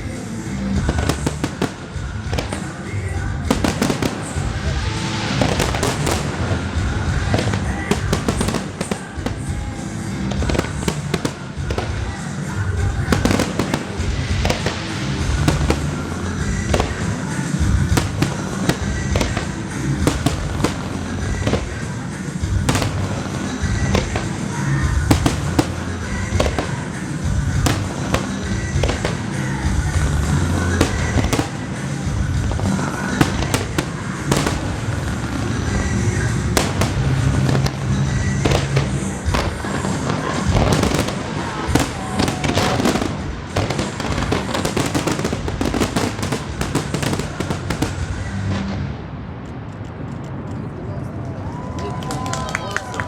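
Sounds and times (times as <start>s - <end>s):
music over sound system: 0.0s - 48.6s
fireworks bangs and crackling: 0.0s - 53.0s.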